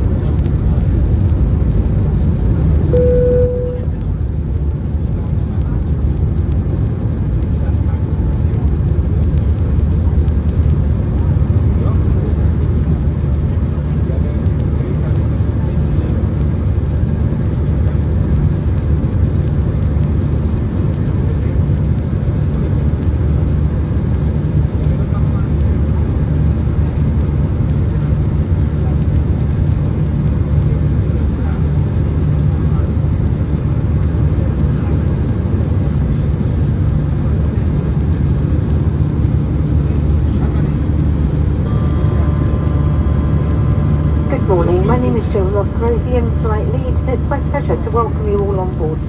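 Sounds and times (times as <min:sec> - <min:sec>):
aircraft engines rumbling: 0:00.0 - 0:49.0.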